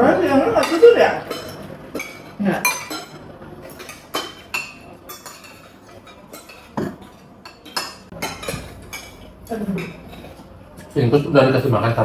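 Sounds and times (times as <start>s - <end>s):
cutlery clinking on plates: 0.5s - 10.9s.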